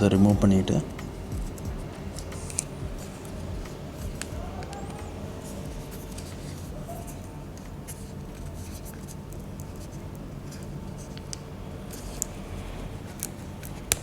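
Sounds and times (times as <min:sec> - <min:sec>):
hands scratching laptop parts: 0:00.0 - 0:14.0
steady low hum: 0:00.0 - 0:14.0.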